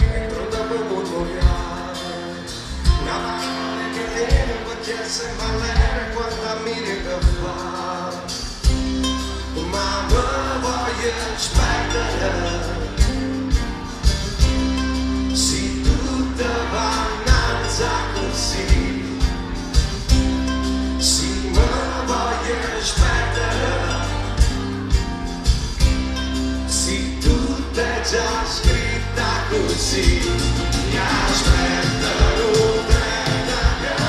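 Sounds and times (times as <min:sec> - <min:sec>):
person singing: 0:00.0 - 0:13.9, 0:15.2 - 0:19.6, 0:21.0 - 0:25.0, 0:26.7 - 0:34.0
live band playing: 0:00.0 - 0:34.0.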